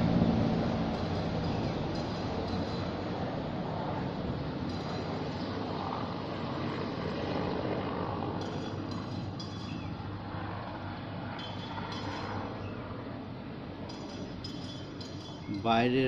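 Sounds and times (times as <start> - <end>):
helicopter flying over: 0.0 - 16.0.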